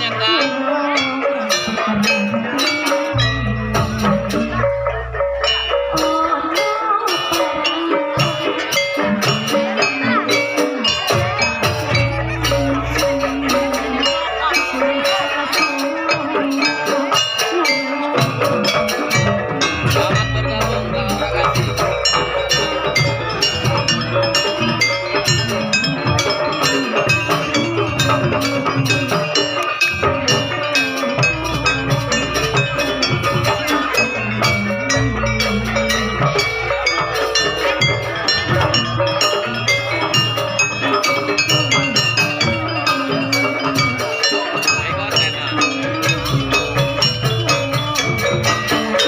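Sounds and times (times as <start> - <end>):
low drum beats: 0.0 - 49.0
tuned metal percussion ringing: 0.0 - 49.0.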